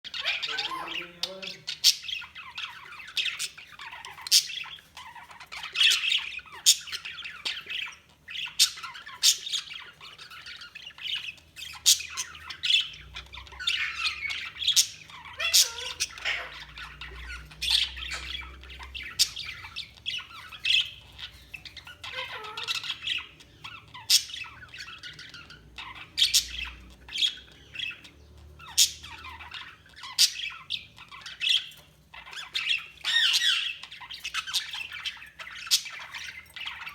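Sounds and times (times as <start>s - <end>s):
budgerigars chattering and squawking: 0.0s - 36.9s.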